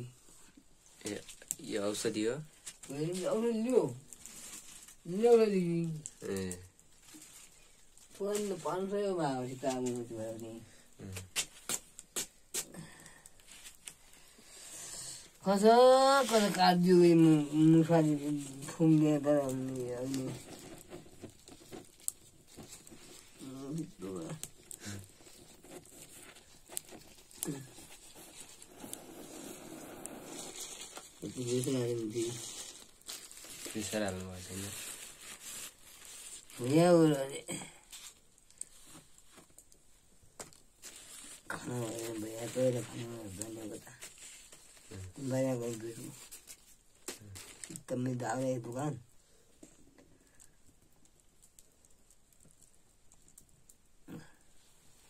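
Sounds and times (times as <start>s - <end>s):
fire hissing: 0.0s - 52.8s
fire clicks and pops: 0.4s - 54.6s.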